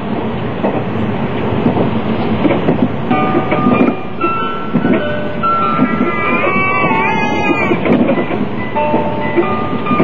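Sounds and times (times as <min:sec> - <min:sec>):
train rumbling with wheel knocks: 0:00.0 - 0:10.0.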